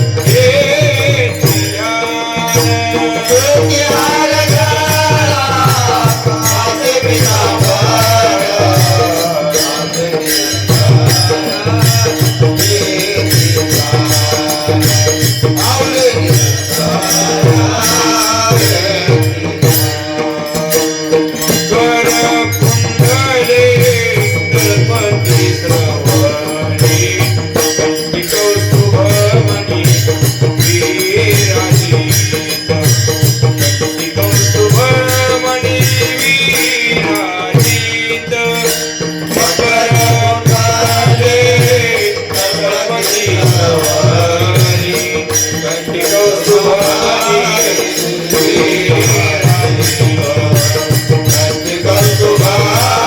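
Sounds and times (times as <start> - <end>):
man singing devotional melody: 0.0 - 53.0
rhythmic hand drumming: 0.0 - 53.0.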